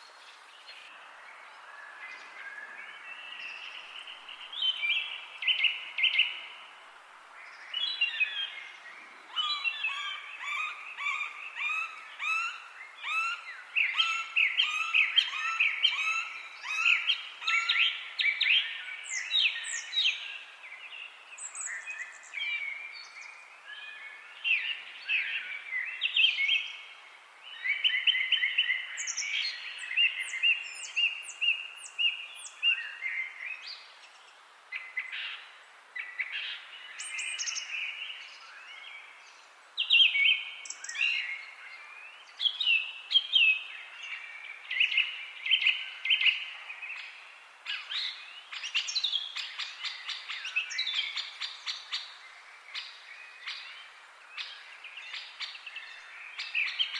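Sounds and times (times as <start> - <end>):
faint steady hiss: 0.0 - 56.9
songbirds chorus: 0.0 - 56.9.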